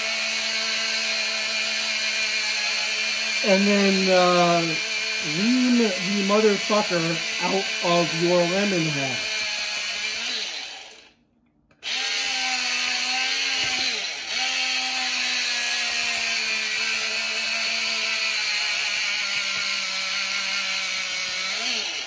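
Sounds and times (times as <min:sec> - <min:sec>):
juicer motor whirring: 0:00.0 - 0:22.0.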